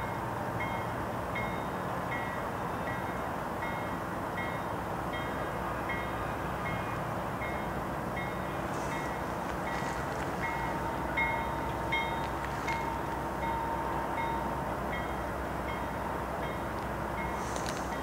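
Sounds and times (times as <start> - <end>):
diesel train rumbling: 0.0 - 18.0
railway crossing bell dinging: 0.0 - 18.0.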